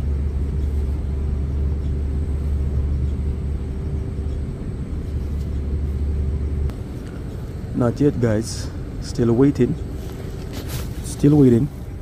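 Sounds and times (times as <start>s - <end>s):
faint even hum: 0.0s - 12.0s
steady low rumble: 0.0s - 12.0s.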